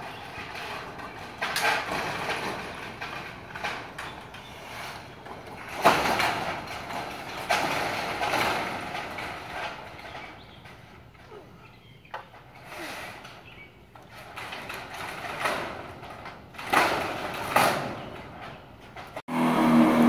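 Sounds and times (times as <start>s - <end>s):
sheet metal scraping and rattling: 0.0s - 11.5s, 12.2s - 20.0s.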